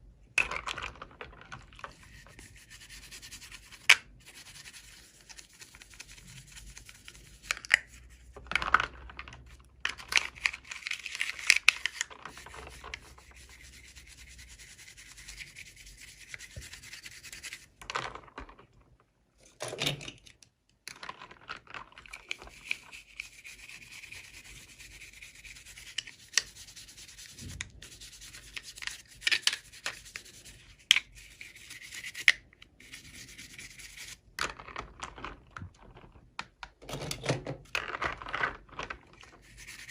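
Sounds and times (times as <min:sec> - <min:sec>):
hands scratching toy packaging: 0:00.9 - 0:18.4, 0:20.9 - 0:36.3, 0:37.7 - 0:39.9.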